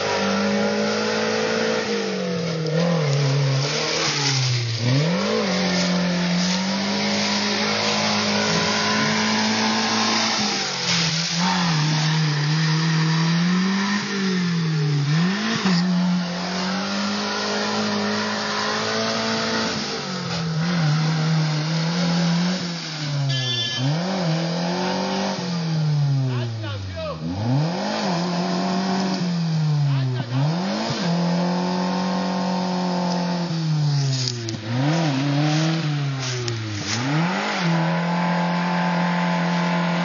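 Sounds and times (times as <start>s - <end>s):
engine revving hard: 0.0s - 40.0s.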